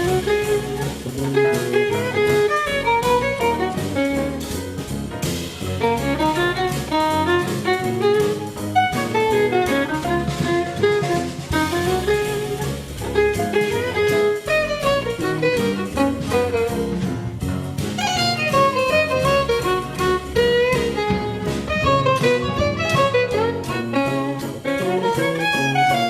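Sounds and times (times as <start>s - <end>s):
instrumental music with drum beat: 0.0s - 26.0s.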